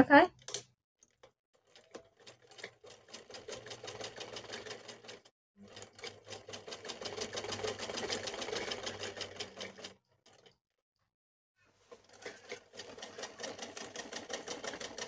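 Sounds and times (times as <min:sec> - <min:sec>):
sewing machine stitching: 0:01.1 - 0:10.6, 0:11.8 - 0:15.0.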